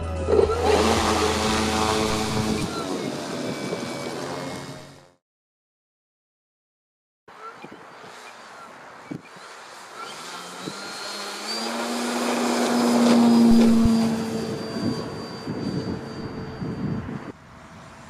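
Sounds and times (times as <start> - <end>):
model plane electric motor whining: 0.0 - 5.2, 7.3 - 18.0.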